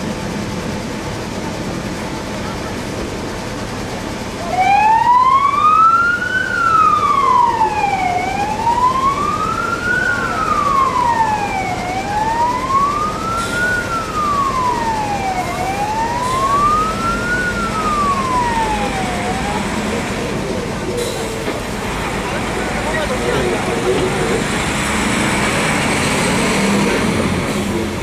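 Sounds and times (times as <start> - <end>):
fire engine siren wailing: 4.2 - 28.0.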